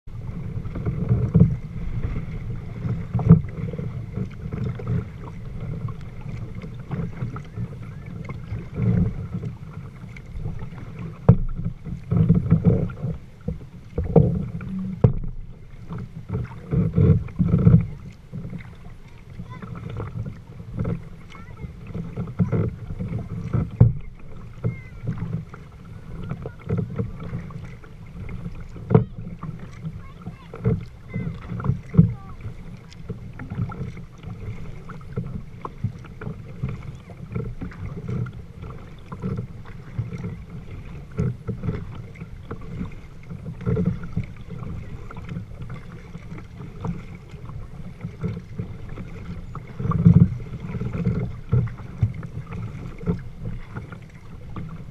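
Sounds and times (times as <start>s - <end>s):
water splashing against hull: 0.0s - 54.9s.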